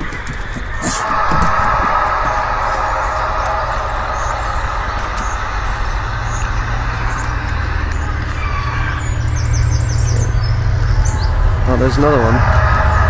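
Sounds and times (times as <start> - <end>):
birds chirping: 0.0 - 13.0
low droning rumble: 0.0 - 13.0.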